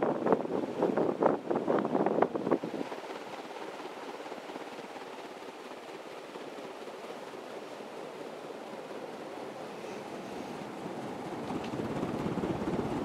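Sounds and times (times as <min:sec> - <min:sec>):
wind buffeting microphone: 0:00.0 - 0:09.7, 0:10.5 - 0:13.0
ceiling fan running: 0:00.0 - 0:13.0.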